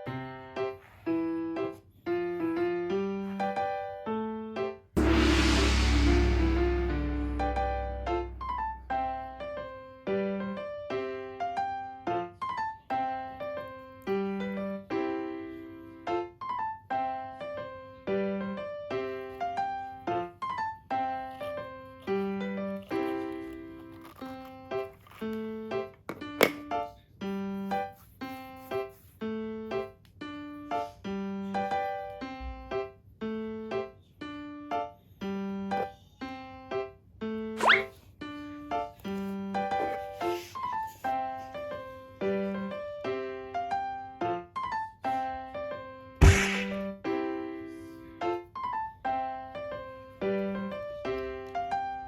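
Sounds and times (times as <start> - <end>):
light piano tune: 0.0 - 52.0.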